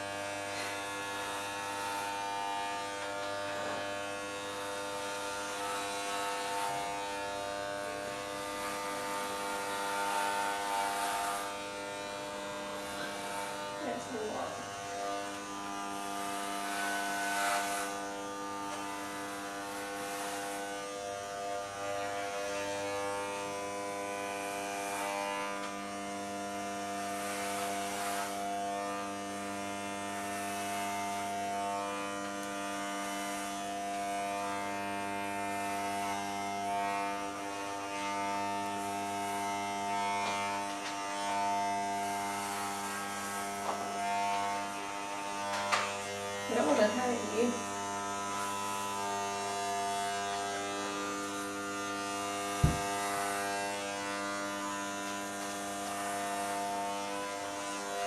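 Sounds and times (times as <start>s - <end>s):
electric hair clippers buzzing: 0.0s - 58.0s.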